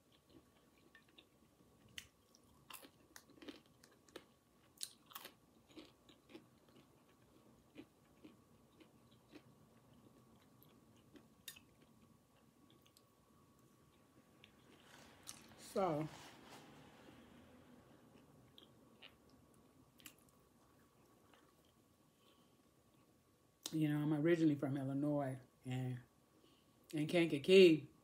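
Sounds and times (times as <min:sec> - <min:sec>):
chewing fries with crisp crunches: 0:00.0 - 0:23.8.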